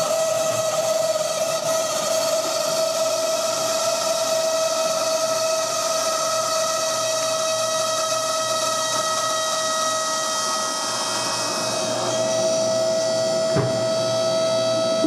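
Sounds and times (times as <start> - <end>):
hydraulic whine: 0.0 - 15.0.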